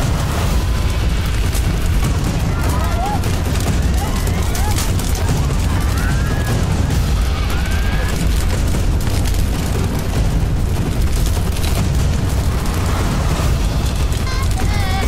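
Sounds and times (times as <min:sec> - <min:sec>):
large fire roaring: 0:00.0 - 0:15.0.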